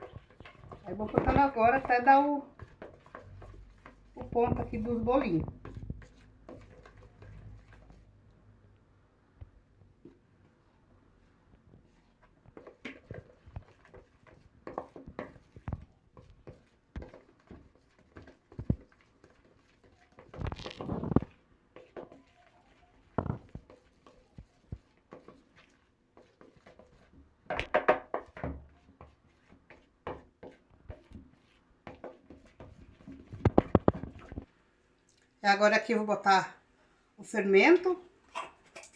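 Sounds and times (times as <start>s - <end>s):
spoon stirring batter in a bowl: 0.0s - 36.4s.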